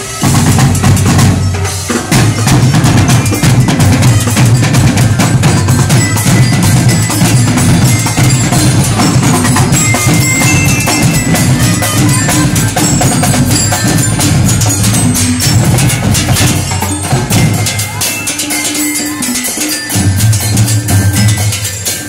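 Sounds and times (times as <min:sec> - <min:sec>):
bass drums: 0:00.0 - 0:18.1
gongs ringing: 0:00.0 - 0:22.0
wooden percussion: 0:00.0 - 0:22.0.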